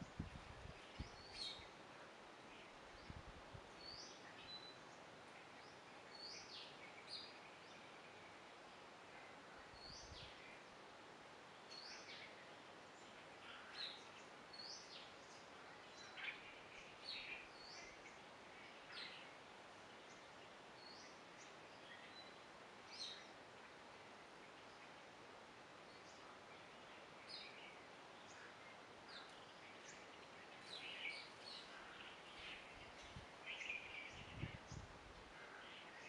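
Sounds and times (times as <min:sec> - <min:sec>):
faint bird chirps: 0:00.0 - 0:10.8, 0:11.5 - 0:36.0
steady background hiss: 0:00.0 - 0:36.0.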